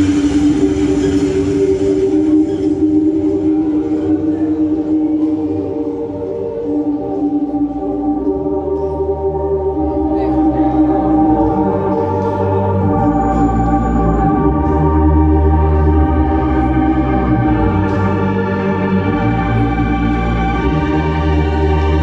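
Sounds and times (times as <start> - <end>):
deep bass line: 0.0 - 22.0
sustained keyboard chords: 0.0 - 22.0.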